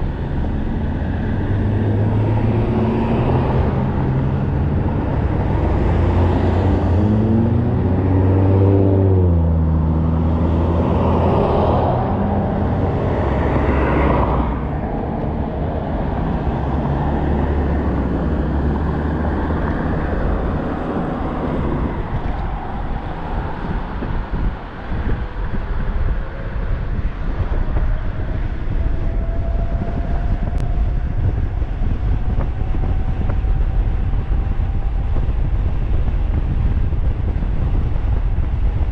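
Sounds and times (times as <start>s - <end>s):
engine-like pitched sound: 0.0s - 38.9s
road noise: 0.0s - 38.9s
wind buffeting microphone: 0.0s - 38.9s.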